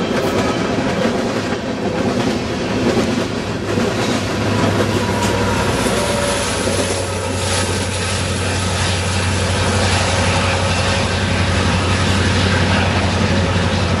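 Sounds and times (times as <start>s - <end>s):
locomotive engine drone: 0.0s - 14.0s
train rushing noise: 0.0s - 14.0s.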